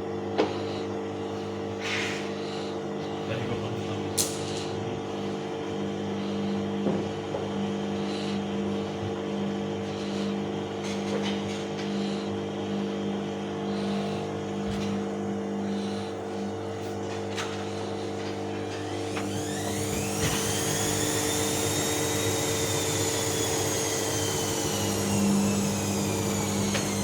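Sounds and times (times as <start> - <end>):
washing machine motor hum: 0.0 - 27.0.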